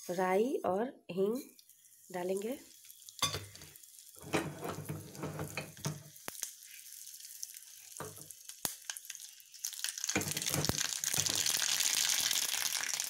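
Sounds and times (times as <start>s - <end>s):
oil sizzling: 1.5s - 13.0s.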